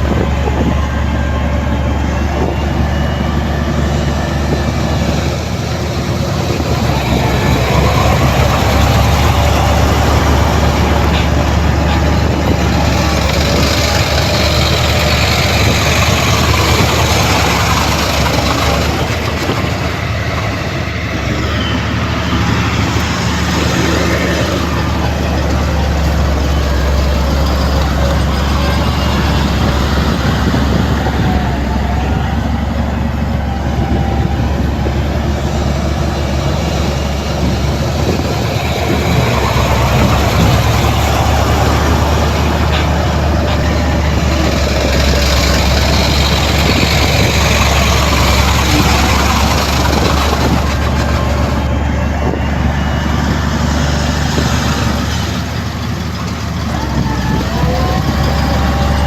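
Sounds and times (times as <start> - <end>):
heavy diesel machinery engines: 0.0 - 59.0.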